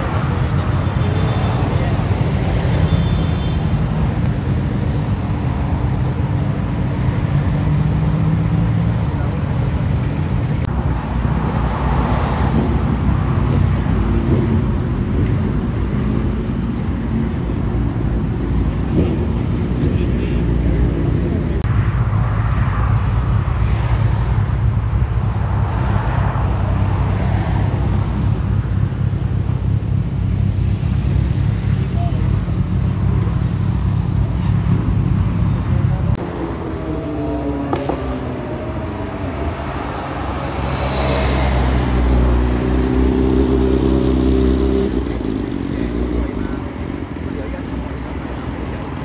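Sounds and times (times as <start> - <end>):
highway traffic rumble: 0.0 - 49.0
passing engine: 0.0 - 49.0.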